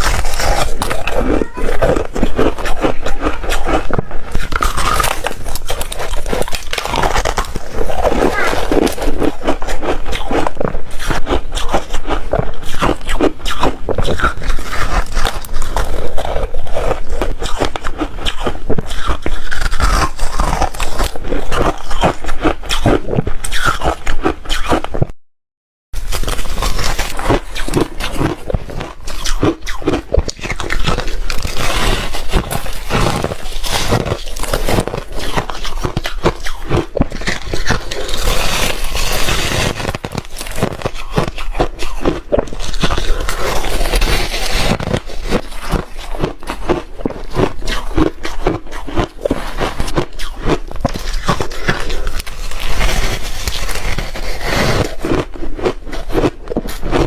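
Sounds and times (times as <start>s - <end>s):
person chewing ice: 0.0s - 25.1s, 26.0s - 57.0s.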